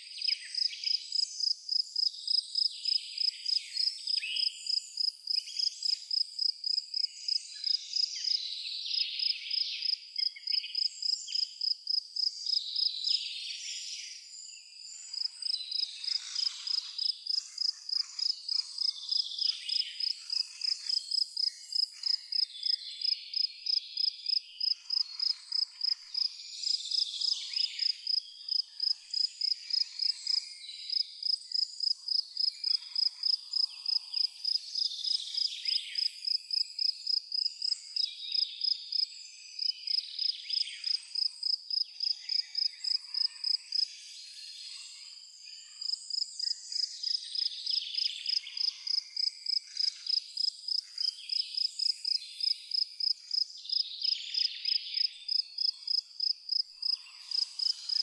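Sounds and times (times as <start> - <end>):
cricket chirping: 0.2 - 44.0, 44.7 - 58.0.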